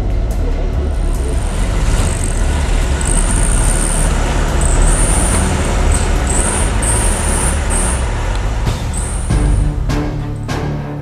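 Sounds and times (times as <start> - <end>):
car engine rumbling: 0.0 - 10.7.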